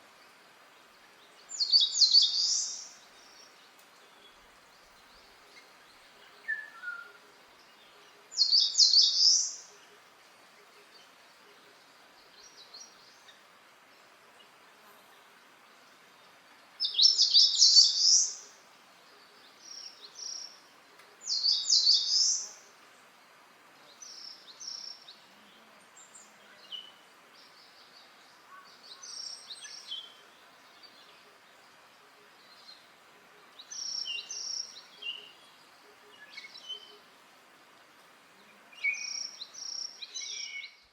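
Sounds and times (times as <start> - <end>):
faint steady hiss: 0.0 - 40.9
songbirds singing: 0.0 - 40.9.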